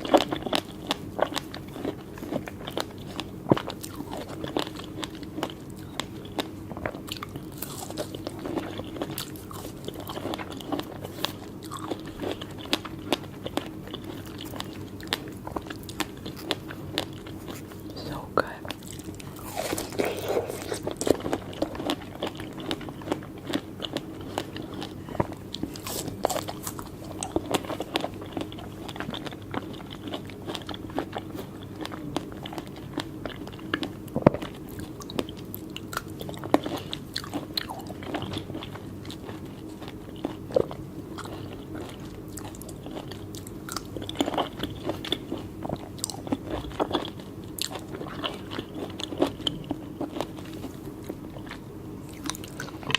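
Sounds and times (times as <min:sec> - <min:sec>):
person eating soft fruit: 0:00.0 - 0:52.9
steady low hum: 0:00.0 - 0:52.9
wet chewing with crunchy clicks: 0:00.0 - 0:52.9.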